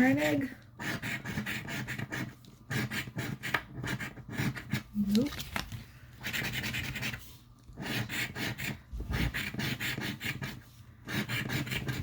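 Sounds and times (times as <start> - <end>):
scratch-off ticket being scratched: 0.8 - 5.4, 6.2 - 7.2, 7.8 - 12.0.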